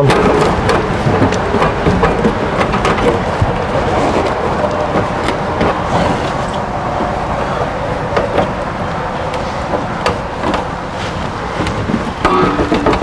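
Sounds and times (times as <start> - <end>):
sharp knocks: 0.0 - 13.0
steady rumbling: 0.0 - 13.0.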